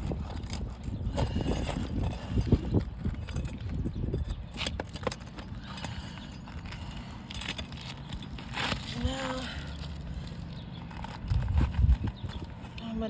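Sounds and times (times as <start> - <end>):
pry tool scraping shingles: 0.0 - 12.6.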